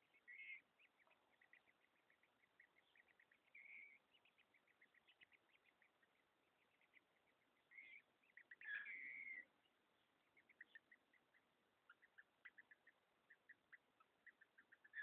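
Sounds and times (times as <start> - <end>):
drawn-out bird call: 0.0 - 15.0
faint short bird chirps: 0.0 - 15.0.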